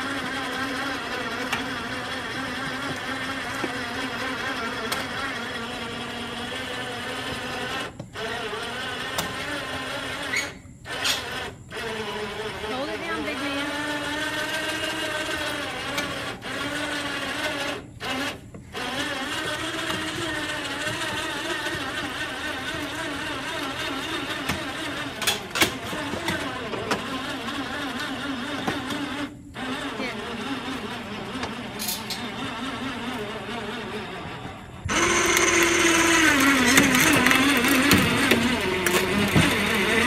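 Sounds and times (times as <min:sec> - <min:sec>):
electric winch whining: 0:00.0 - 0:40.0.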